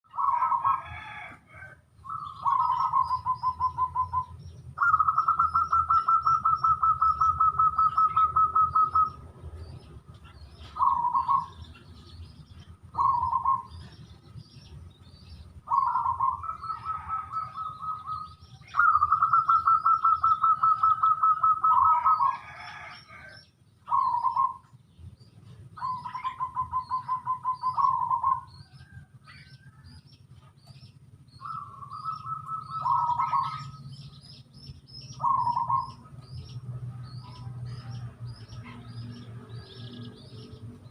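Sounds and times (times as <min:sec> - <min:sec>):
small birds chirping: 0:00.0 - 0:40.9
dove cooing: 0:00.1 - 0:24.8, 0:25.4 - 0:40.6
low steady rumble: 0:00.1 - 0:40.9.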